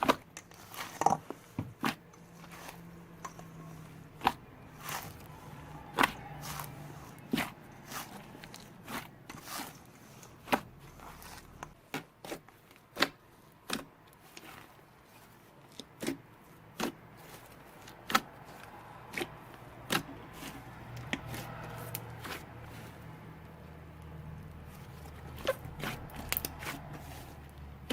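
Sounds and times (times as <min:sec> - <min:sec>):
slime squished by hand: 0:04.2 - 0:27.9.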